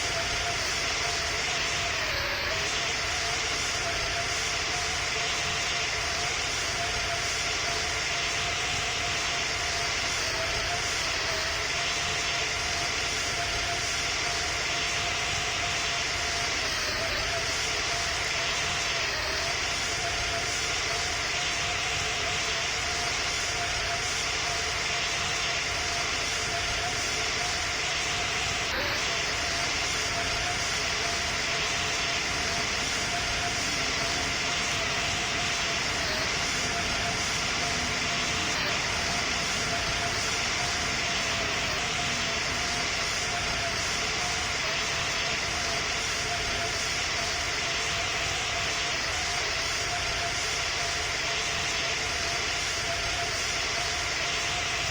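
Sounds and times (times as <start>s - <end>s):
faint constant tone: 0.0s - 54.9s
jet engines running: 0.0s - 54.9s.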